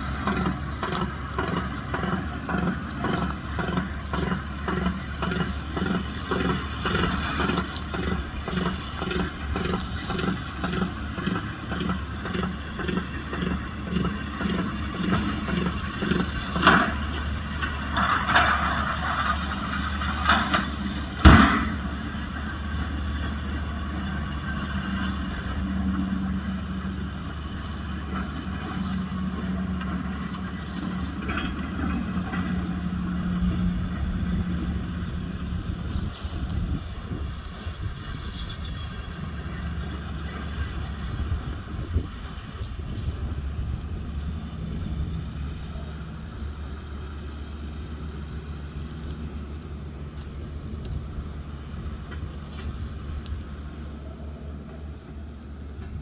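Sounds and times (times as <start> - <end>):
tractor running under load: 0.0 - 56.0.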